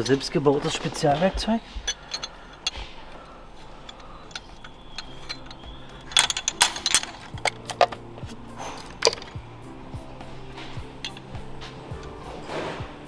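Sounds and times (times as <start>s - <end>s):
hand tools clicking on metal: 0.0s - 13.0s.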